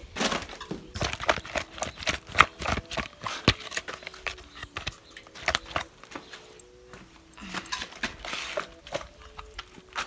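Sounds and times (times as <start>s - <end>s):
fish clattering in plastic bowl: 0.0s - 10.0s.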